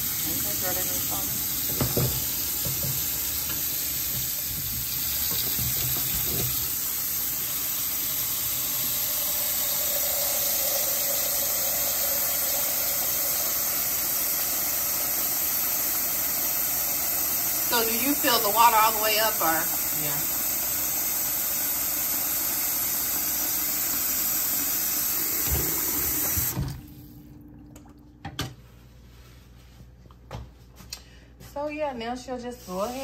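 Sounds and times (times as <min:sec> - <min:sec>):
tap water running into a pot: 0:00.0 - 0:28.4.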